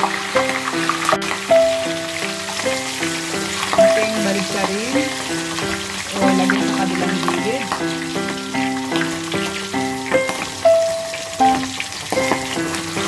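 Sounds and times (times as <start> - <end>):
ribs sizzling in hot oil: 0.0 - 13.0
instrumental background music: 1.0 - 12.5.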